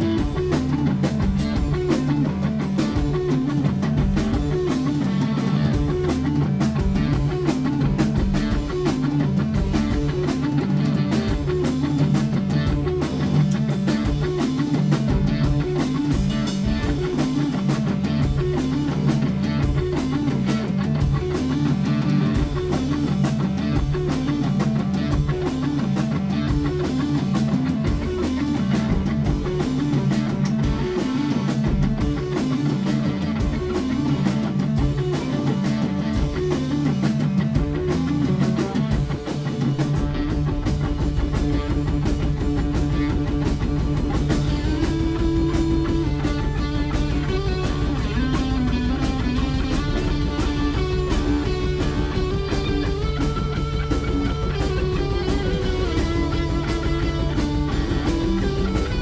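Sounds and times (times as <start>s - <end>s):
distorted electric guitar riff: 0.0s - 59.0s
drum kit pounding: 0.0s - 59.0s.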